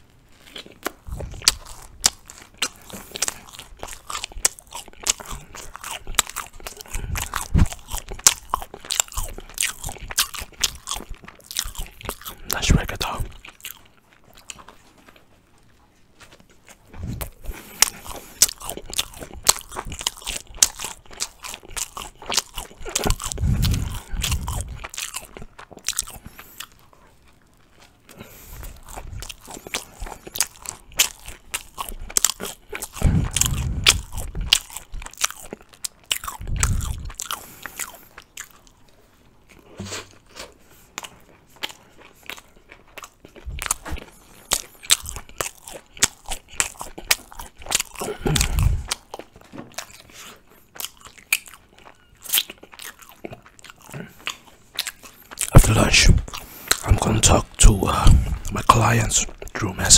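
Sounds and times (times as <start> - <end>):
biting and chewing flatbread: 0.0 - 59.9
wet mouth clicks and crunches: 0.3 - 15.3, 16.3 - 38.9, 40.2 - 59.9.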